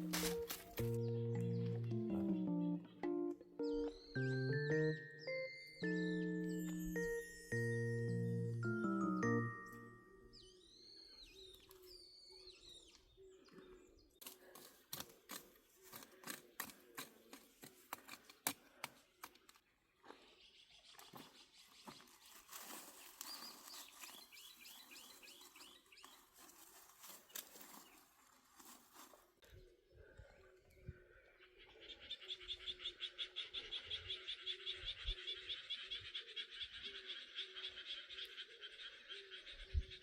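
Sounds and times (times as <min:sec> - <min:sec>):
faint birdsong: 0:00.0 - 0:40.0.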